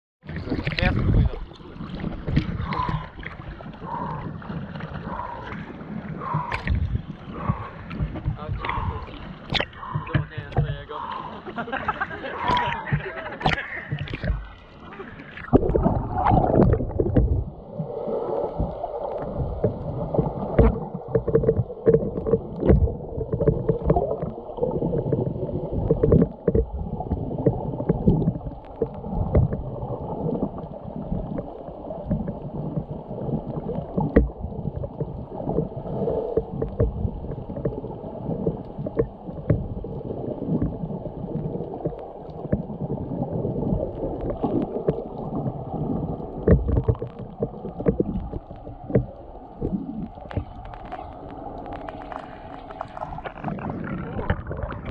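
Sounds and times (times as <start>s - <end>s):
muffled underwater water rumble: 0.2s - 54.9s.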